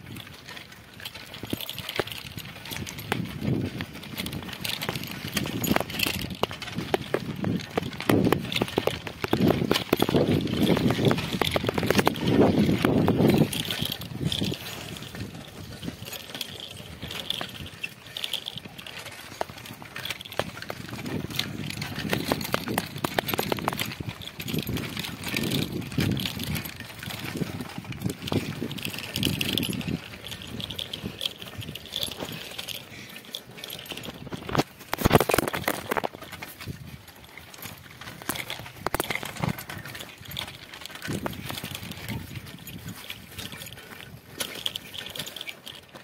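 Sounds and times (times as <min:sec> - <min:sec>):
bicycle rattling on stony track: 0:00.0 - 0:46.0.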